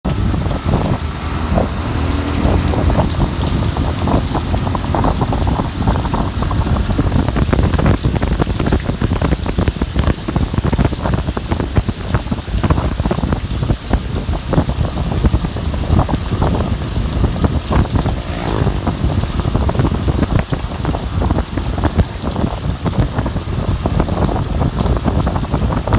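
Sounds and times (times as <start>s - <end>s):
rain falling hard: 0.0s - 25.9s
wind rumbling on microphone: 0.0s - 25.9s.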